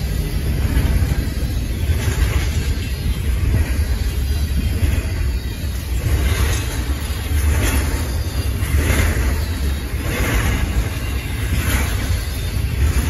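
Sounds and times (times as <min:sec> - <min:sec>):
rail car rattle: 0:00.0 - 0:13.0
train wheels rumbling on rail: 0:00.0 - 0:13.0.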